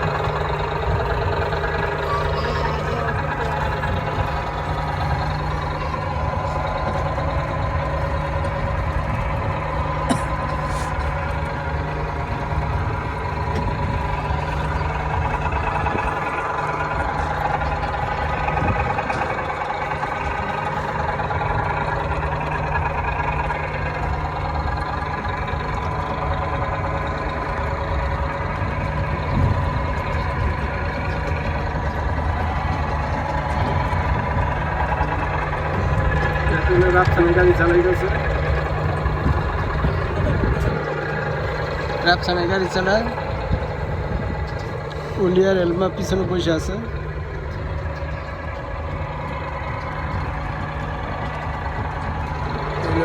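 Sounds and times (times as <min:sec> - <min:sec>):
high whine: 0:00.0 - 0:53.0
ride-on train engine drone: 0:00.0 - 0:53.0.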